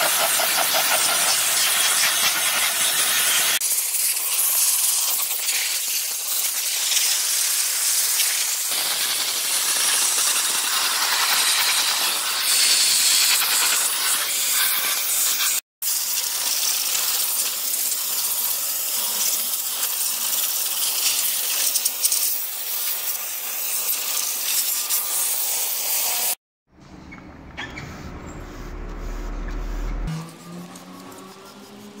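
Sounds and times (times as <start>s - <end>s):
steam cleaner hissing: 0.0s - 26.4s.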